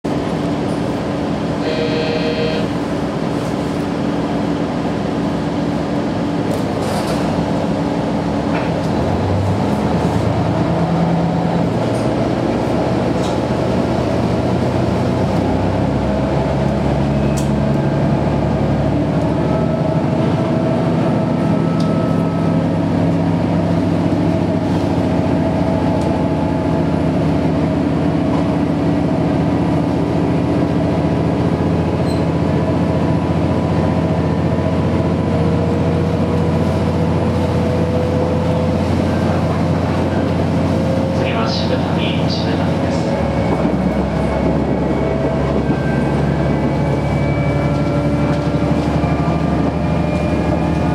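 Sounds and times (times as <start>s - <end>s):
diesel railcar engine under load: 0.0s - 50.9s.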